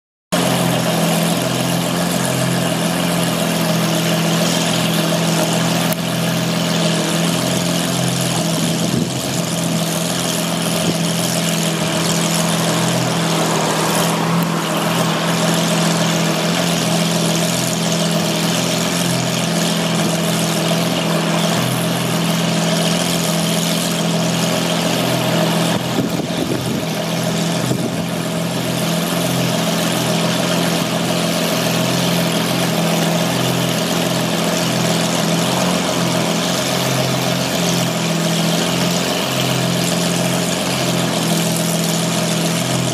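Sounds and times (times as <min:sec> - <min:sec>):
car engine idling: 0:00.4 - 0:42.9.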